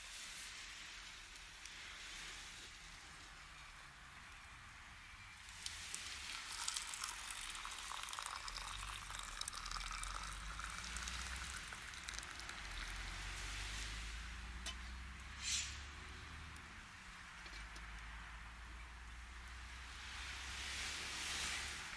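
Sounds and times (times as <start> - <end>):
food sizzling over campfire: 0.0 - 18.1, 19.3 - 21.9.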